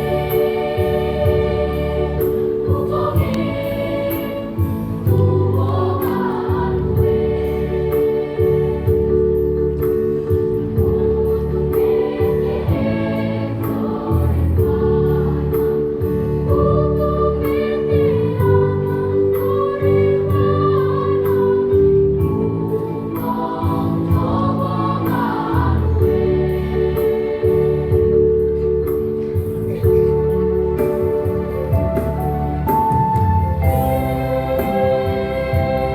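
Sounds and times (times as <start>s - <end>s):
choir singing in parts: 0.0s - 29.5s, 30.3s - 35.9s.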